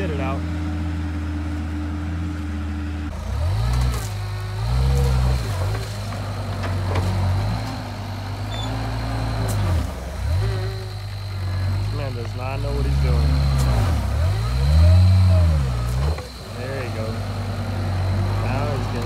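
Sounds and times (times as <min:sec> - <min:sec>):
diesel engine lugging and revving: 0:00.0 - 0:19.0.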